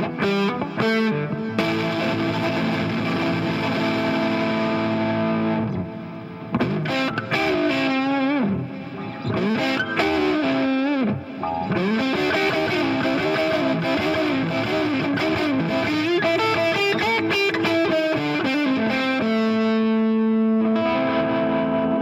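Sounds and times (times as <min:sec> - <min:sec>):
distorted electric guitar blues lead: 0:00.0 - 0:22.0.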